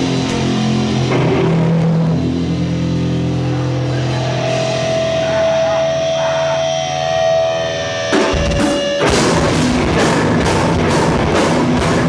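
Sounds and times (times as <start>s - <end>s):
drums: 0.0s - 12.0s
electric guitar chords: 0.0s - 12.0s.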